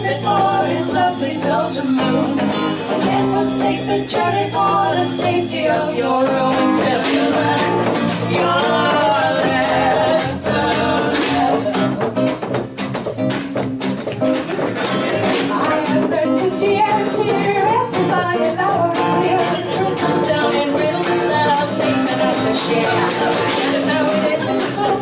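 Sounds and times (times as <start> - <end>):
woman singing: 0.0 - 12.1, 15.3 - 25.0
frame drum beat: 0.0 - 25.0
strummed acoustic guitar: 0.0 - 25.0.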